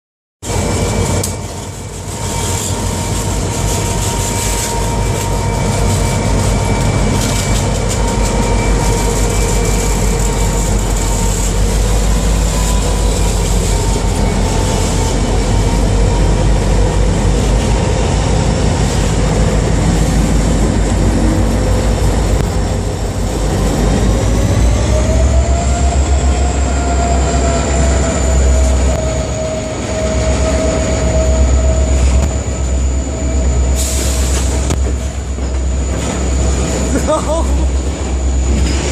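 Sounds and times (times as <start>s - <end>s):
high whining tones: 0.4s - 38.9s
locomotive engine rumble: 0.4s - 38.9s.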